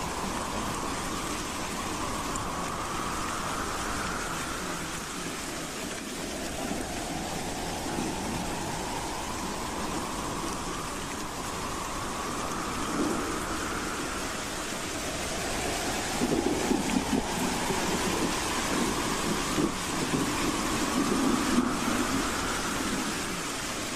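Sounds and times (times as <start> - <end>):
wind howling: 0.0 - 23.9.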